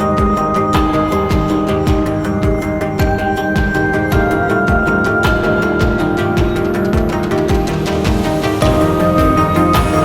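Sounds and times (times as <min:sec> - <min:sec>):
music with steady beat and synth: 0:00.0 - 0:10.0.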